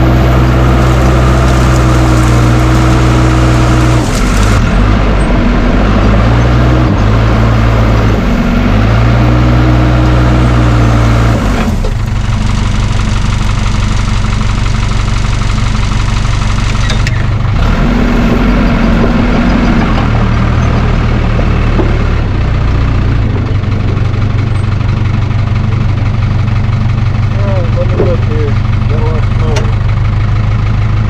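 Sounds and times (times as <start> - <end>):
dozer diesel engine running: 0.0 - 31.0.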